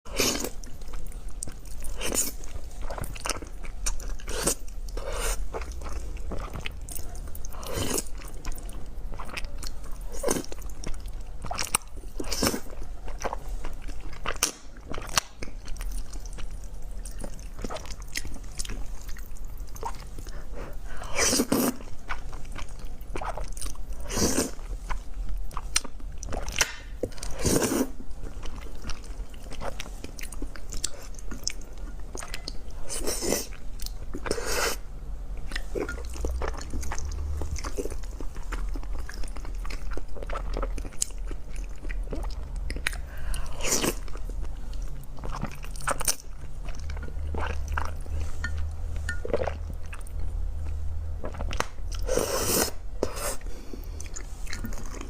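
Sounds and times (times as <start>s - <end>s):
person chewing noodles: 0.1s - 34.8s, 35.4s - 55.0s.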